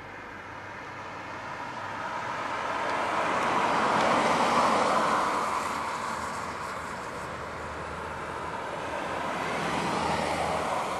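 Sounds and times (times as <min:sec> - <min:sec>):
vehicle passing by: 0:00.9 - 0:10.9.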